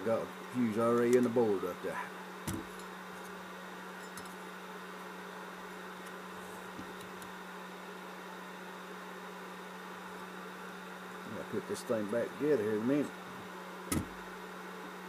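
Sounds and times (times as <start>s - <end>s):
blower hum and hiss: 0.0s - 15.0s.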